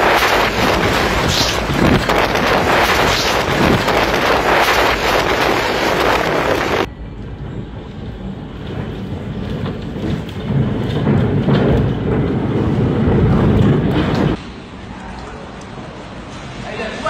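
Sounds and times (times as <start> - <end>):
muffled wind rumble: 0.0 - 14.4
wind hitting microphone: 0.0 - 14.4.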